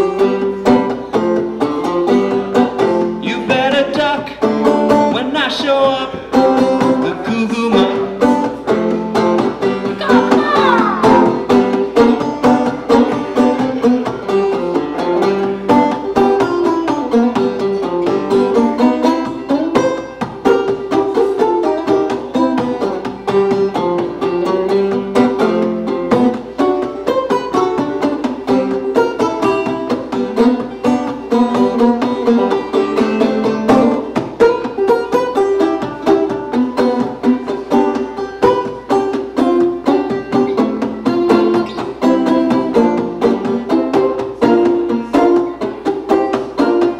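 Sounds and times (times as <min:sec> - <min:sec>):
banjo picking and strumming: 0:00.0 - 0:46.9.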